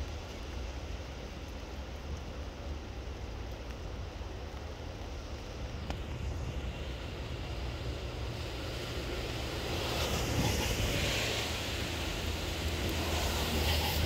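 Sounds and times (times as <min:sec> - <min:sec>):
hiss: 0:00.0 - 0:14.0.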